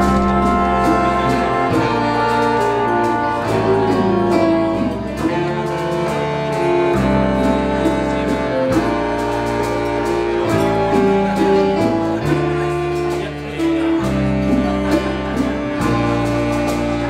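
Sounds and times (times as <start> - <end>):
salsa band playing: 0.0 - 17.0.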